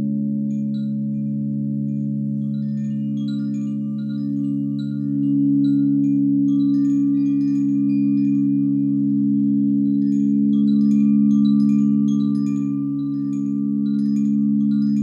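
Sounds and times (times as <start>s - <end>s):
singing bowls low tones: 0.0s - 15.0s
chimes tinkling: 0.5s - 15.0s.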